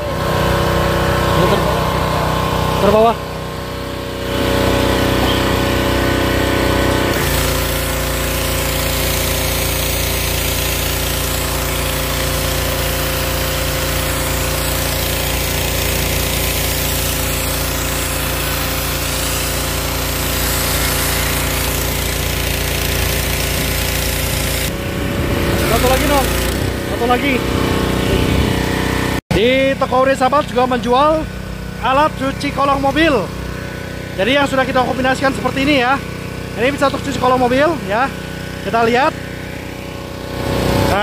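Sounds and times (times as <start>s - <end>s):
high-pressure water spraying: 0.0s - 29.2s, 30.6s - 41.0s
pressure washer engine running: 0.0s - 41.0s.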